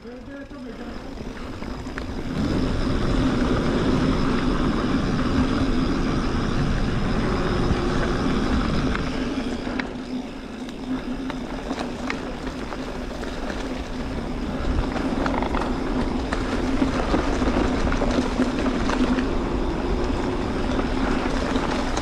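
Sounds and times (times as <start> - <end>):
bike rattling on dirt trail: 0.0 - 22.0.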